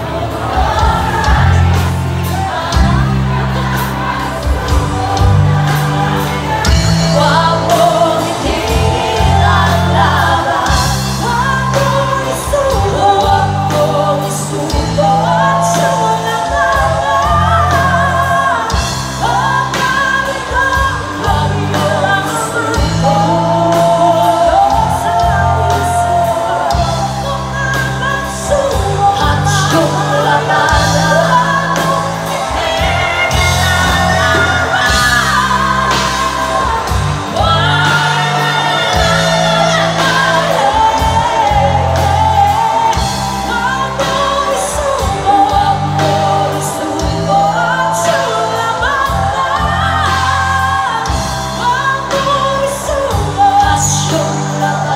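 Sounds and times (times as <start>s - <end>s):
bass guitar: 0.0s - 54.9s
drums: 0.0s - 54.9s
electric guitar: 0.0s - 54.9s
women singing: 0.0s - 54.9s.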